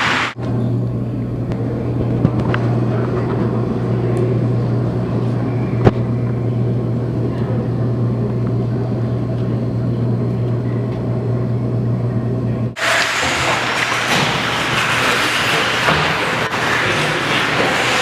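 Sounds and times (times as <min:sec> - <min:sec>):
noisy background: 0:00.0 - 0:18.0
steady low hum: 0:00.0 - 0:18.0.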